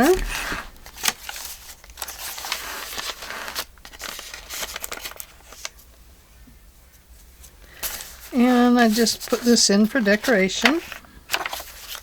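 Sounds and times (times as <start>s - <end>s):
paper rustling and crinkling: 0.0s - 5.8s, 7.4s - 12.0s.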